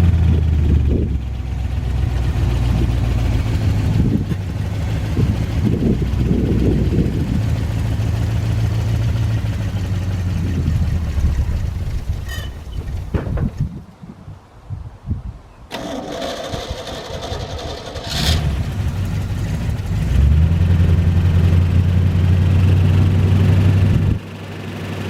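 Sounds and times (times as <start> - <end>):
pickup engine cranking and starting: 0.1 - 13.7, 15.7 - 24.2.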